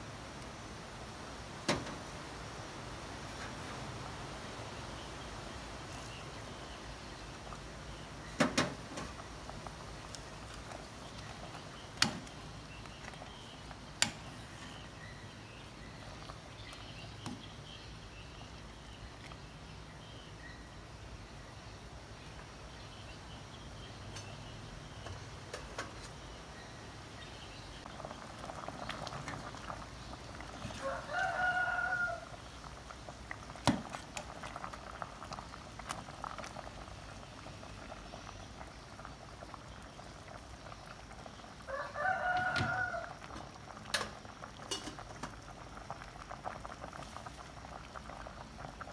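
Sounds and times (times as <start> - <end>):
curry bubbling in a pot: 0.1 - 48.9.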